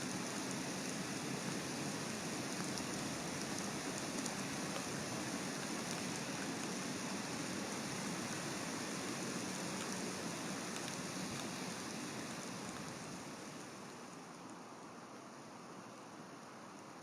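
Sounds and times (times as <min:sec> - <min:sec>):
raindrops ticking on microphone: 0:00.0 - 0:15.0, 0:15.7 - 0:17.0
steady rain hiss: 0:00.0 - 0:17.0.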